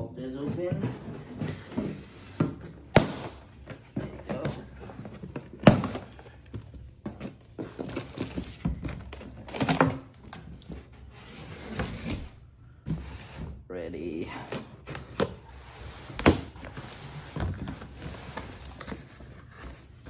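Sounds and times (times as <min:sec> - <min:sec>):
cardboard rustling: 0:00.2 - 0:13.6, 0:14.4 - 0:20.0.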